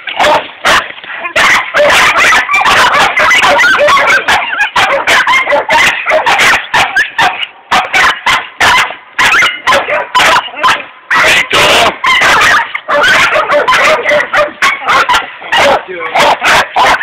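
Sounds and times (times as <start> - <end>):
dogs barking rapidly: 0.0 - 17.0.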